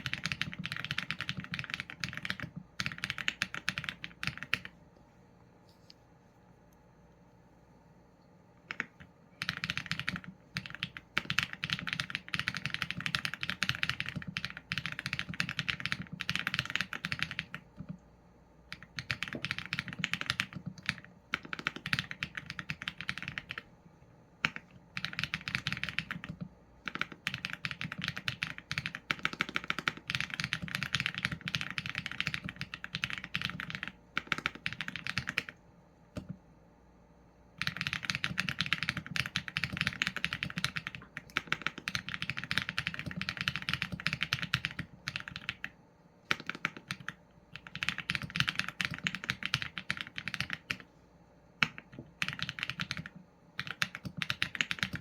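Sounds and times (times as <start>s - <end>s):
mechanical keyboard typing: 0.0s - 4.8s, 8.6s - 18.0s, 18.7s - 23.7s, 24.4s - 35.6s, 37.6s - 50.9s, 51.6s - 55.0s.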